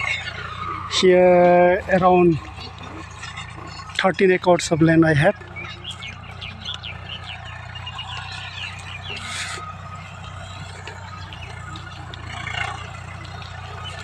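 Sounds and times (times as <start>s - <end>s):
birds chirping: 0.0s - 14.0s
low engine hum: 0.0s - 14.0s.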